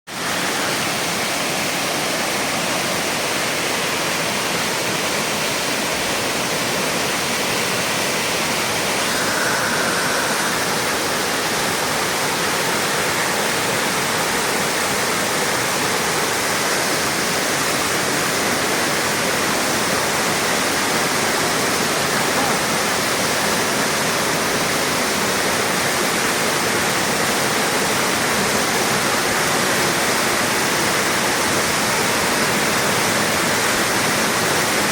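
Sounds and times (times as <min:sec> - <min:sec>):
waterfall pouring: 0:00.1 - 0:34.9.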